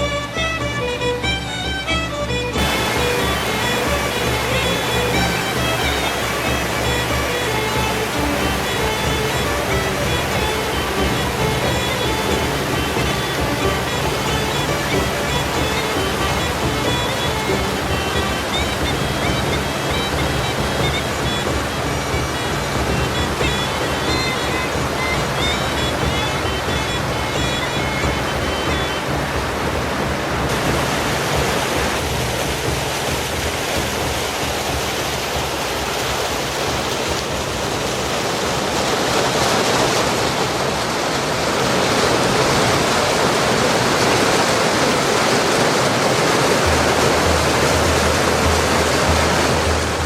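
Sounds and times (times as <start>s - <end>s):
water rushing: 0.0s - 50.0s.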